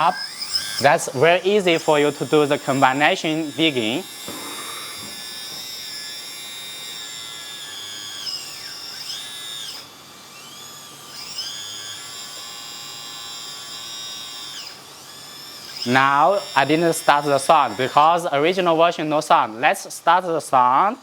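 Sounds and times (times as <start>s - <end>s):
electric pump motor whining: 0.0s - 20.2s.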